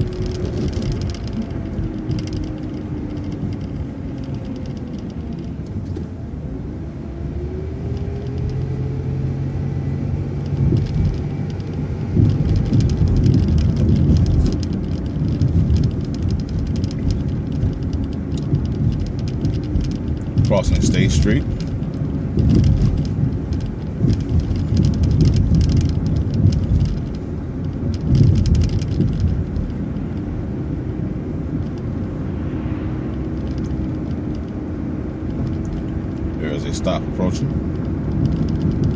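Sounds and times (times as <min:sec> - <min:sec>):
bus engine and transmission whine: 0:00.0 - 0:38.9.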